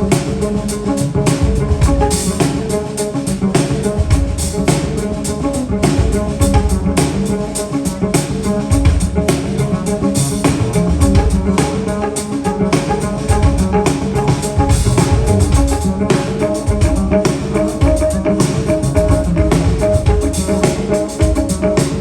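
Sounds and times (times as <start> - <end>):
double bass: 0.0 - 22.0
drum kit: 0.0 - 22.0
piano: 0.0 - 22.0.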